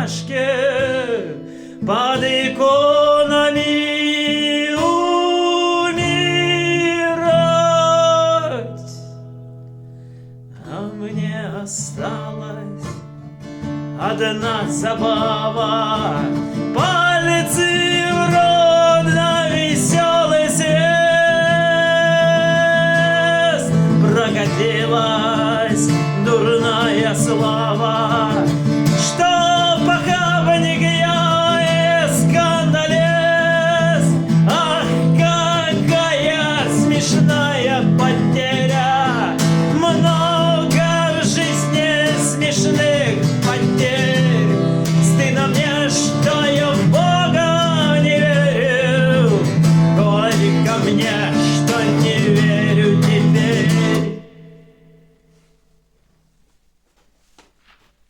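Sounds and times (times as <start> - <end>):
man singing: 0.0 - 9.4, 10.5 - 55.3
acoustic guitar: 0.0 - 58.0.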